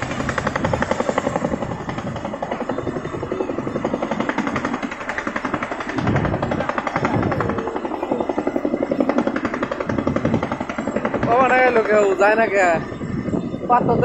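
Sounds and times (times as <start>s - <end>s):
helicopter rotors chopping: 0.0s - 14.0s.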